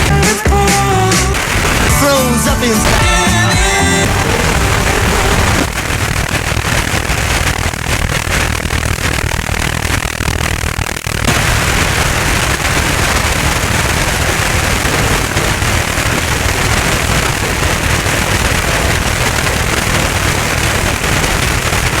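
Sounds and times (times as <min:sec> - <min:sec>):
radio jamming noise: 0:00.0 - 0:22.0.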